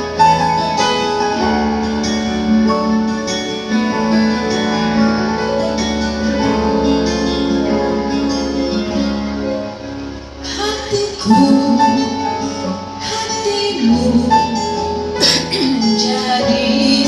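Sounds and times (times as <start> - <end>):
guitar over sustained chords: 0.0 - 17.0
low bass line: 0.0 - 17.0.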